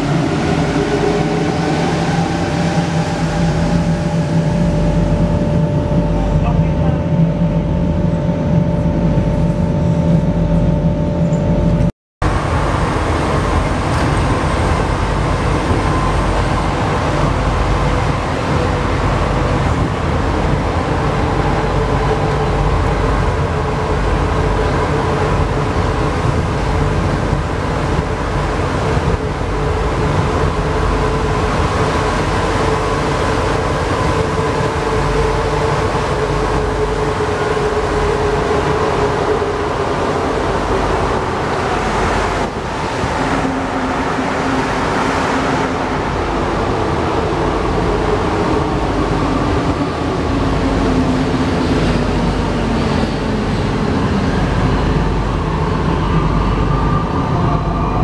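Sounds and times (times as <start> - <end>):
train rolling noise: 0.0 - 58.0.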